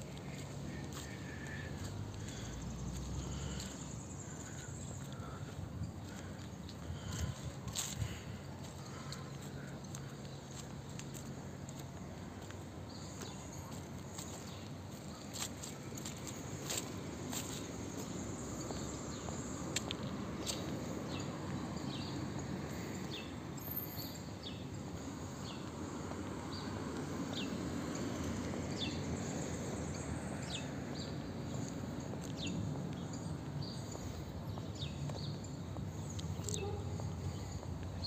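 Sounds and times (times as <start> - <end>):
outdoor background noise: 0.0 - 38.0.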